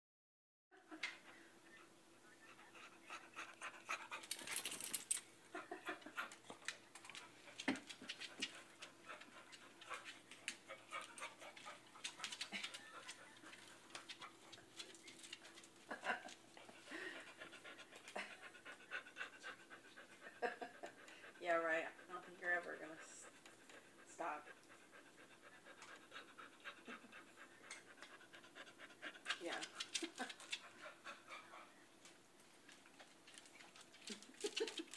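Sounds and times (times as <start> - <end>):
dog panting: 1.0 - 34.9.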